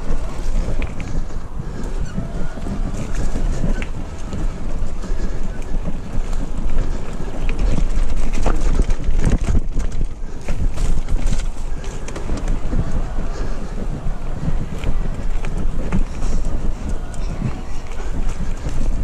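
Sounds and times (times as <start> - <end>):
bike knocking and rattling: 0.0 - 19.0
wind buffeting microphone: 0.0 - 19.0.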